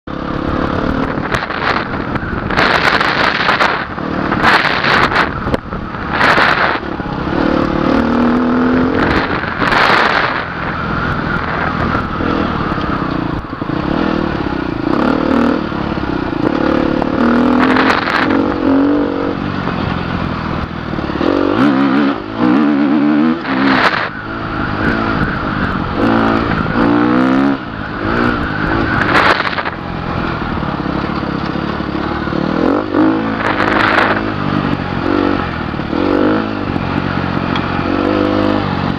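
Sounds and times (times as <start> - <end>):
dirt bike engine revving: 0.1 - 38.9
wind noise on microphone: 0.1 - 38.9.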